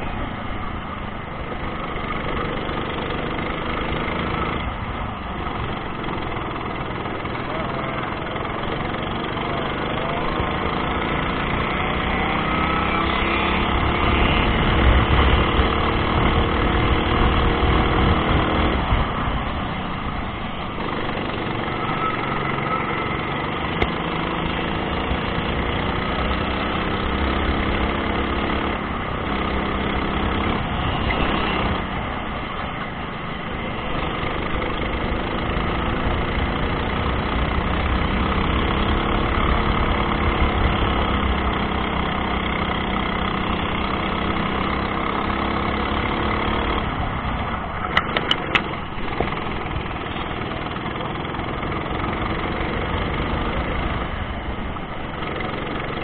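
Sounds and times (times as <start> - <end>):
go-kart engine revving: 1.3 - 56.0.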